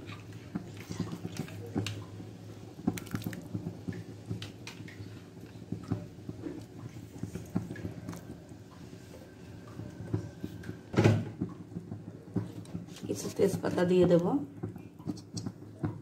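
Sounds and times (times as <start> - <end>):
water simmering with small pops: 0.0 - 16.0.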